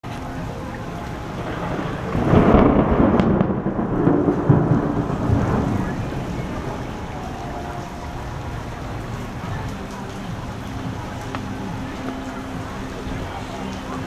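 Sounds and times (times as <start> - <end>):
steady falling rain: 0.0 - 14.0
thunder rumbling: 0.3 - 14.0.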